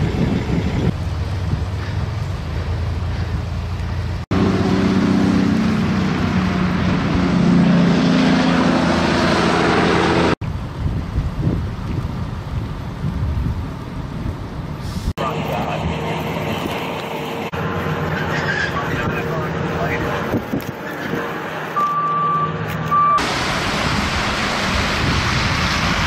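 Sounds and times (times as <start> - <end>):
heavy trucks engine drone: 0.0 - 26.0
vehicles on snowy highway: 0.0 - 26.0
wind: 0.0 - 26.0.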